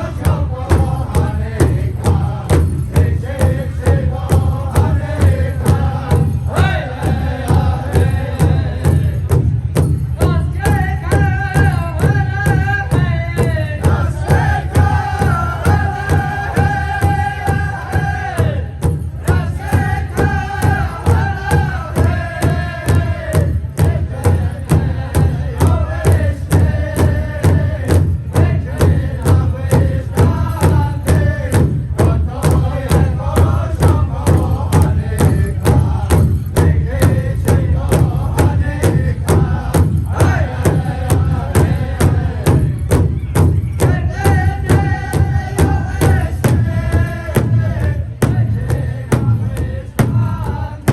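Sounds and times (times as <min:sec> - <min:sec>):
group singing in unison: 0:00.0 - 0:09.5, 0:10.2 - 0:50.9
big drum steady beat: 0:00.0 - 0:50.9.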